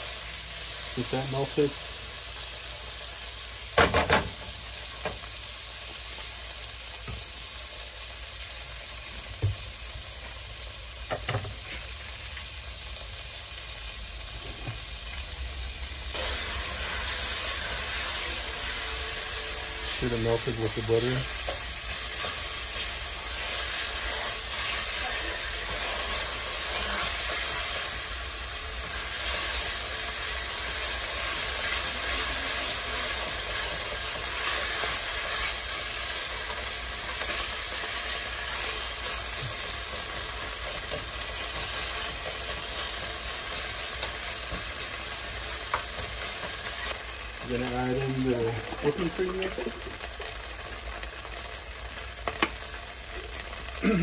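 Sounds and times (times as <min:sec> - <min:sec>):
butter sizzling in a pan: 0:00.0 - 0:54.0.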